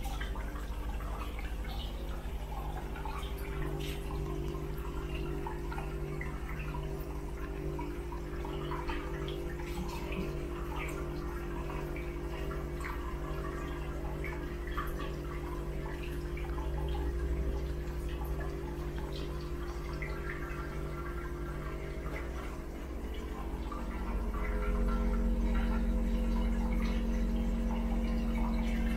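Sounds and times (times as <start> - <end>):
low steady hum: 0.0 - 28.9
water pouring into tub: 0.0 - 28.9.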